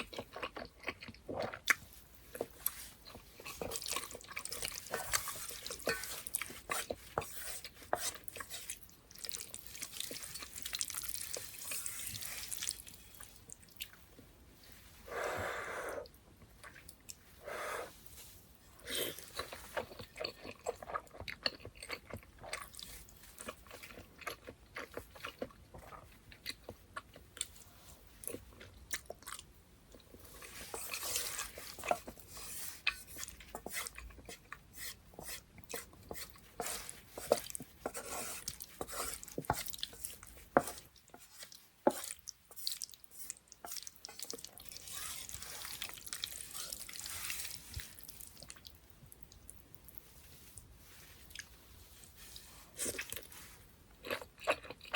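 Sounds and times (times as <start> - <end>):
chewing noodles: 0.0 - 14.3, 18.8 - 54.9.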